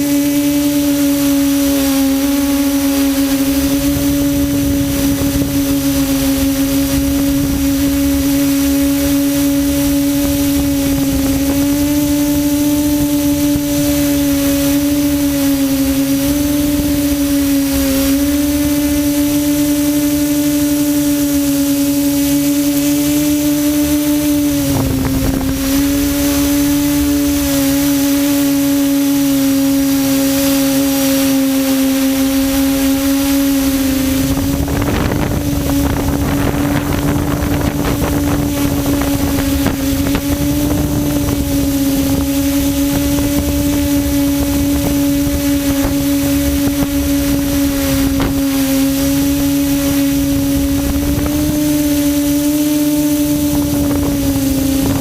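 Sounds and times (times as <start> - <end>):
drone propellers humming: 0.0 - 55.0
wind on microphone: 0.0 - 55.0.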